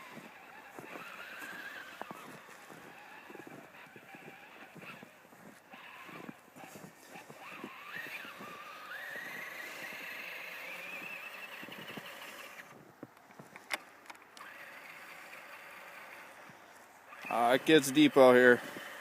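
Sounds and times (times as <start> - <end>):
electric motor whining: 0.0 - 12.9, 13.7 - 19.0.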